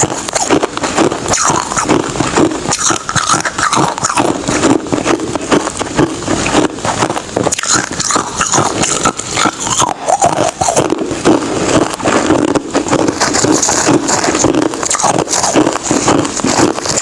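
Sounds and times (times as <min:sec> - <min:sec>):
ice being chewed: 0:00.0 - 0:17.0.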